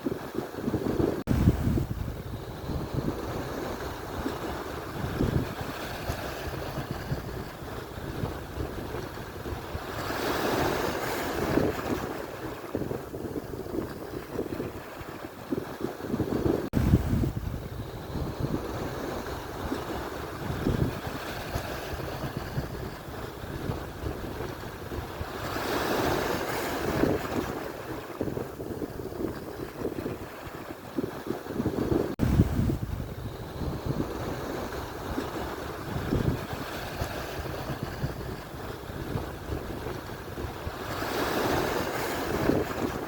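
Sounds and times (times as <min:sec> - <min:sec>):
sea wash: 0:00.0 - 0:43.0
wave breaking and washing in: 0:00.0 - 0:43.0
wind buffeting microphone: 0:00.0 - 0:43.0.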